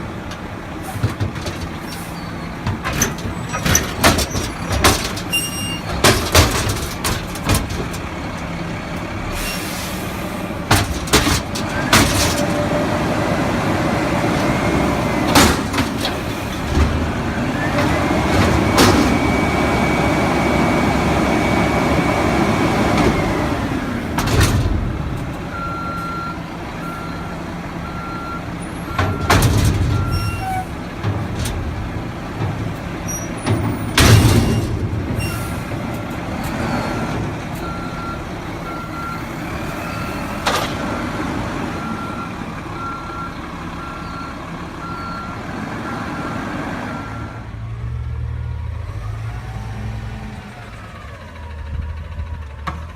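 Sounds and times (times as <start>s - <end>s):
garbage truck engine running: 0.0s - 52.9s.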